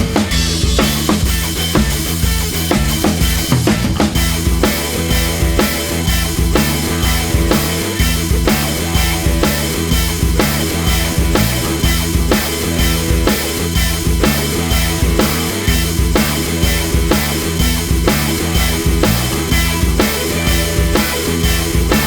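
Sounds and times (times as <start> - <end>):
rock music with drums and bass: 0.0 - 22.0.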